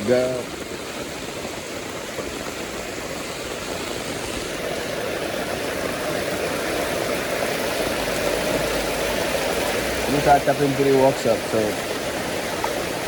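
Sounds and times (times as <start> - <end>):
heavy rain on an umbrella: 0.0 - 13.0.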